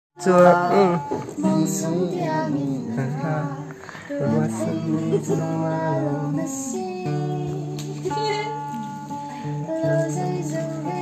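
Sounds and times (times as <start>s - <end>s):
acoustic guitar: 0.2s - 11.0s
woman singing: 0.2s - 11.0s.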